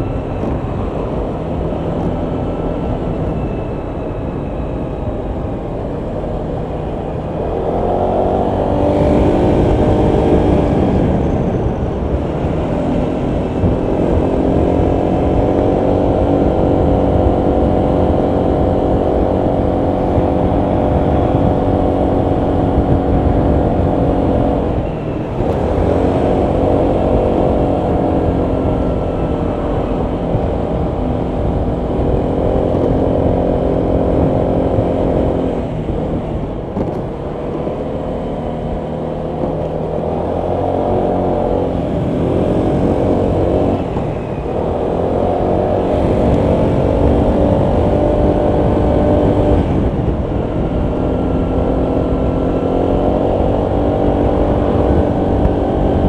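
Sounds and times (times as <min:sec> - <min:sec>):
road noise: 0:00.0 - 0:56.0
scooter engine running: 0:00.0 - 0:56.0
wind noise: 0:00.0 - 0:56.0.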